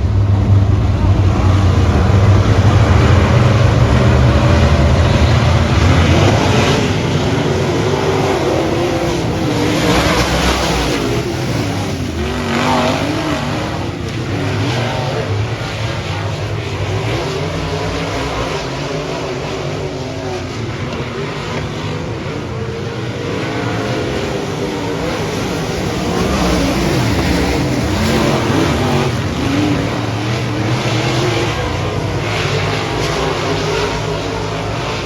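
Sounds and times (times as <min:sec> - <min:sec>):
race car engines passing: 0:00.0 - 0:35.0.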